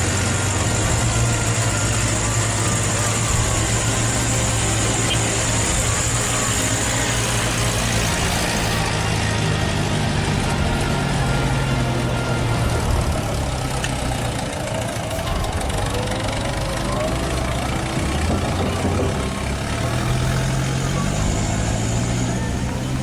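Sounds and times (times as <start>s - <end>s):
truck engine drone: 0.0s - 23.0s.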